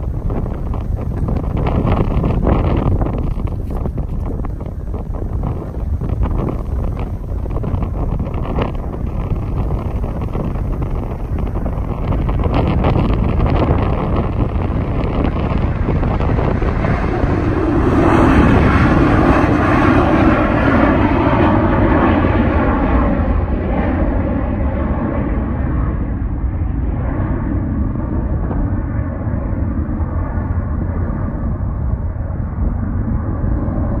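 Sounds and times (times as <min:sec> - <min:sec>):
jet airliner taking off: 0:00.0 - 0:34.0.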